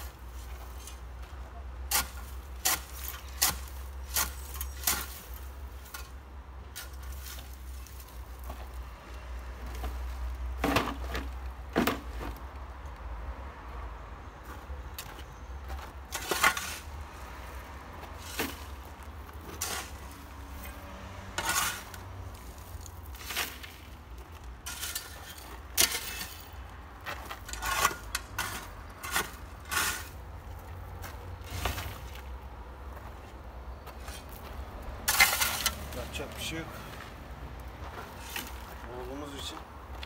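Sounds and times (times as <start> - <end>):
shovel scraping gravelly soil: 0.0 - 1.2, 1.9 - 12.4, 15.8 - 32.4, 33.8 - 37.2, 37.8 - 39.6.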